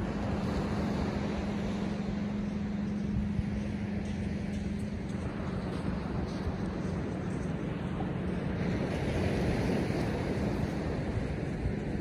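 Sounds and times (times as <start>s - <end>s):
low hum: 0.0s - 12.0s
small waves breaking on beach: 0.0s - 12.0s
wind on microphone: 0.0s - 12.0s.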